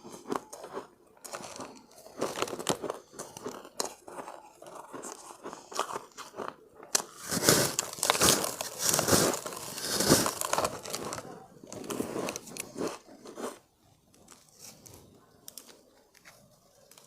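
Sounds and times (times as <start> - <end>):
crunching ice: 0.0 - 17.0.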